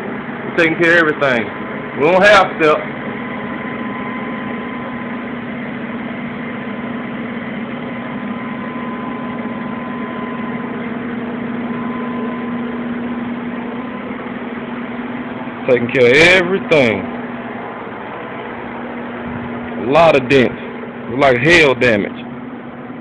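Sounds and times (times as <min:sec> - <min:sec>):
faint high whine: 0:00.0 - 0:05.5, 0:07.9 - 0:23.0
low mechanical drone: 0:00.0 - 0:23.0.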